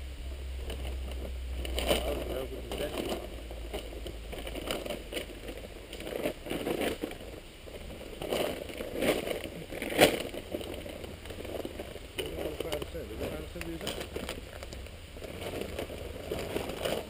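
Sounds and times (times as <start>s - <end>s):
camping gear rustling and knocking: 0.6s - 17.0s.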